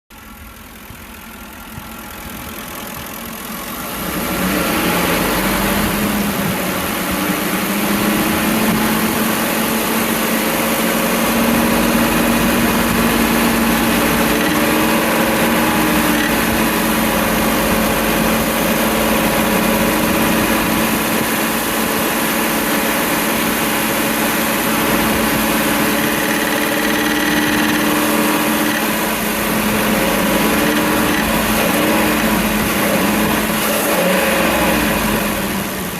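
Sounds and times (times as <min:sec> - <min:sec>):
engine tapping: 0:00.1 - 0:35.9
car engine revving: 0:00.3 - 0:35.9.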